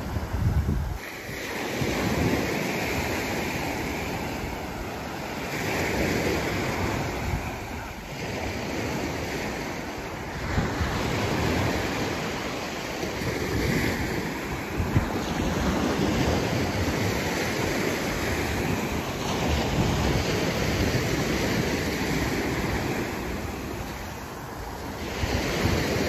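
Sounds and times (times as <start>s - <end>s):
sea waves breaking on beach: 0.0s - 26.0s
wind buffeting microphone: 0.0s - 26.0s.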